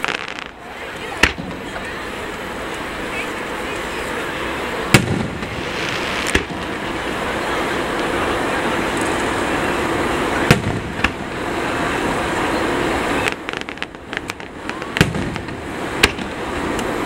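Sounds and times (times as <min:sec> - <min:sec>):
fireworks booming: 0:00.0 - 0:17.0
fireworks crackling: 0:00.0 - 0:17.0
steady background noise: 0:00.0 - 0:17.0.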